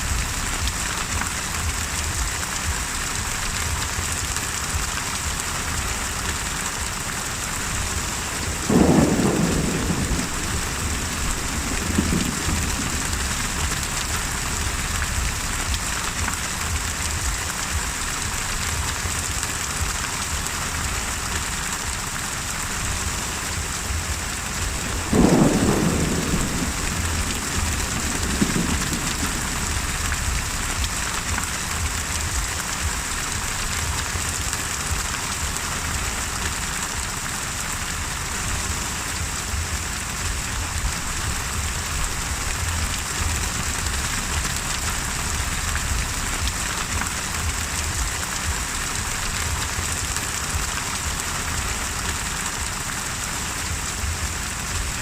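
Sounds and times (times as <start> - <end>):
thunderclap: 0.0 - 20.0, 22.6 - 35.4, 38.4 - 52.7
heavy rain: 0.0 - 55.0
soft thunder rumble: 0.0 - 55.0.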